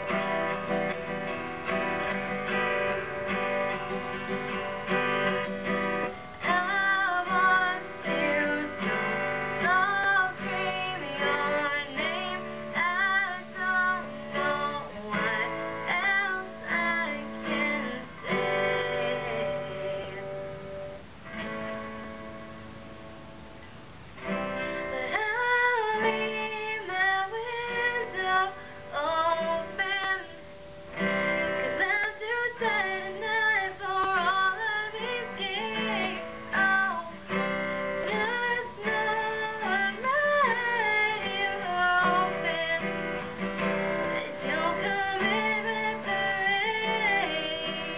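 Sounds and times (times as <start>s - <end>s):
strummed acoustic guitar: 0.0s - 47.9s
woman singing a ballad: 4.9s - 20.5s, 24.2s - 47.9s.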